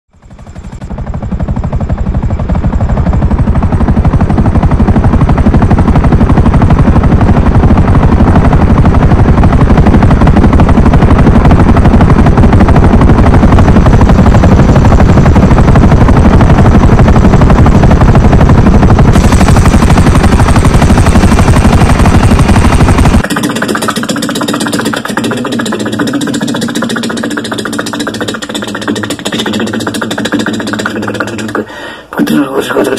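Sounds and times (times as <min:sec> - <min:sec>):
helicopter rotor blades beating: 0:00.1 - 0:32.9.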